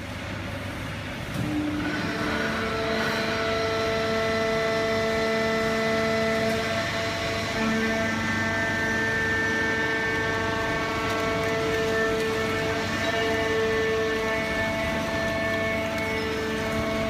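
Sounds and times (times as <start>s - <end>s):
multi-tone hum: 0.0s - 17.0s.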